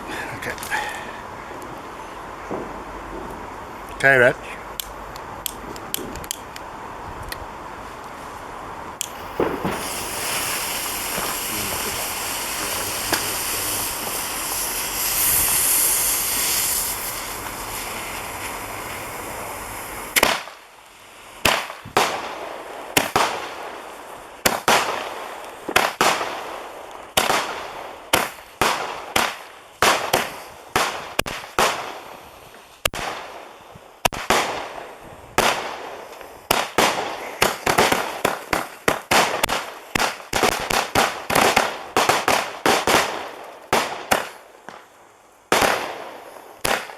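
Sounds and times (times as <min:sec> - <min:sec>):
firework fuse hiss: 0:00.0 - 0:46.9
firework cake shots: 0:03.9 - 0:06.6, 0:09.0 - 0:20.7, 0:21.4 - 0:23.8, 0:24.4 - 0:44.9, 0:45.5 - 0:46.9.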